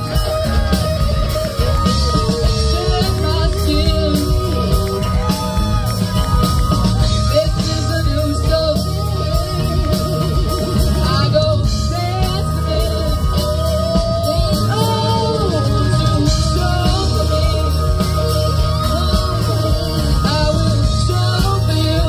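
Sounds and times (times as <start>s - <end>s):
bass guitar: 0.0s - 22.0s
drums: 0.0s - 22.0s
electric guitar: 0.0s - 22.0s
person singing: 0.0s - 22.0s.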